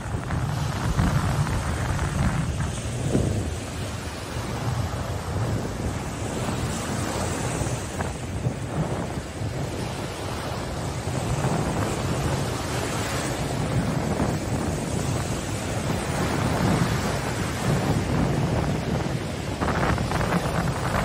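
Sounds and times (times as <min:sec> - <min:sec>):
waves breaking on a beach: 0:00.0 - 0:21.0.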